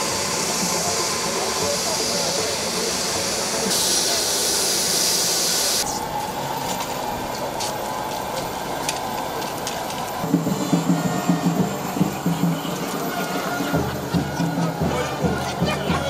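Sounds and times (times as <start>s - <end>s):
jet engines hissing: 0.0s - 16.0s.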